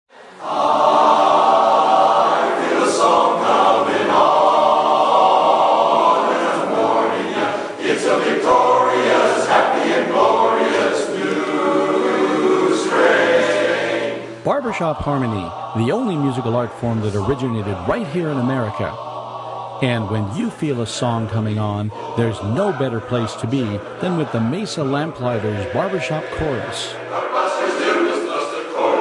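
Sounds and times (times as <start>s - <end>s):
men's chorus singing a cappella: 0.2s - 29.0s.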